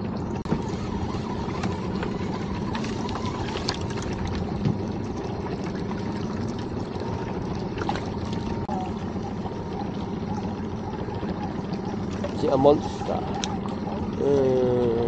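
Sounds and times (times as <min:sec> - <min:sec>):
small splashes and ticks: 0:00.0 - 0:14.9
water lapping against boat hull: 0:00.0 - 0:15.0.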